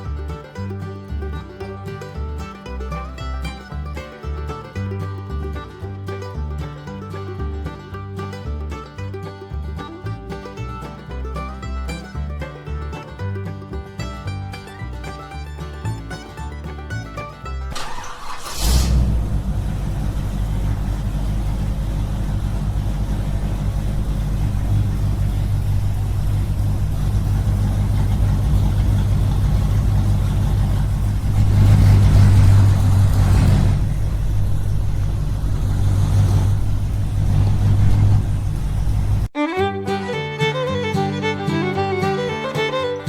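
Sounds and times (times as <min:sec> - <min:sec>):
small engine droning: 0:00.0 - 0:43.0.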